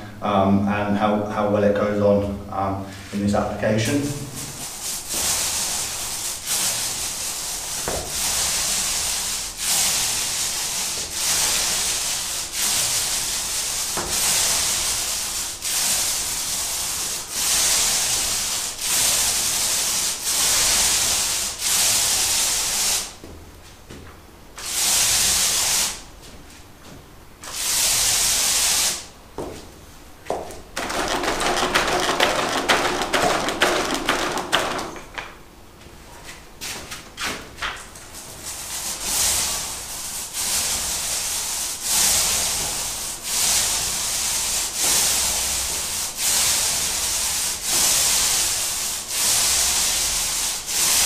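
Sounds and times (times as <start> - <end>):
paint roller swishing on wall: 4.1 - 23.9, 24.6 - 51.0.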